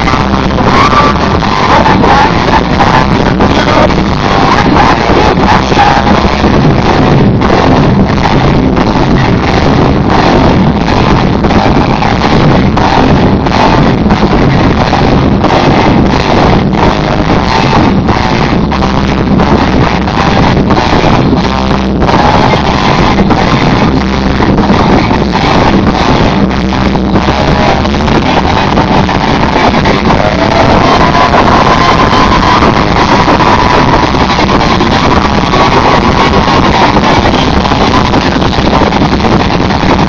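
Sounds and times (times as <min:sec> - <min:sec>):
distorted live rock band: 0:00.0 - 0:40.0
fast drumbeat: 0:00.0 - 0:40.0.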